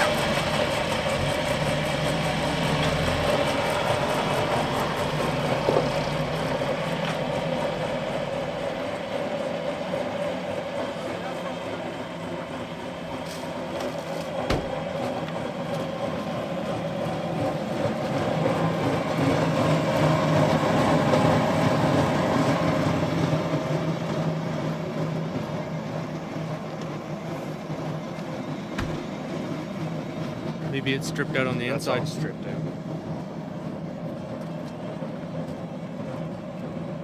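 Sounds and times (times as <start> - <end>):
jet turbine engine running: 0.0 - 37.0.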